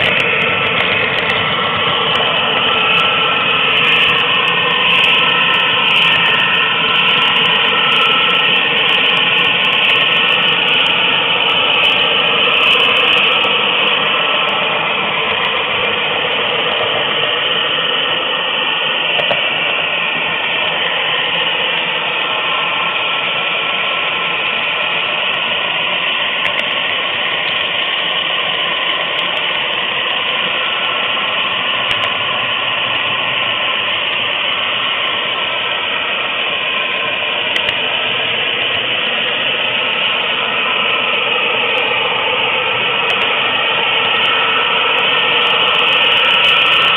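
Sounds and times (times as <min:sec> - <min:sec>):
model train wheels whirring on rails: 0:00.0 - 0:46.9.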